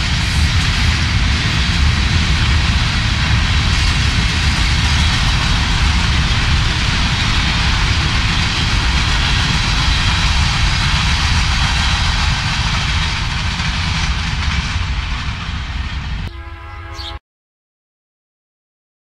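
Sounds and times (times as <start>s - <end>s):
freight train wheels on rails: 0.0s - 17.2s.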